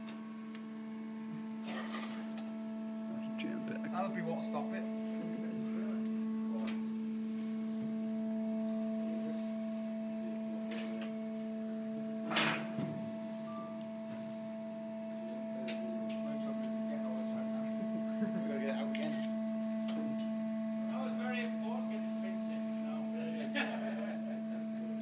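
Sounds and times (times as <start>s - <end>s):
industrial machine hum: 0.0s - 25.0s.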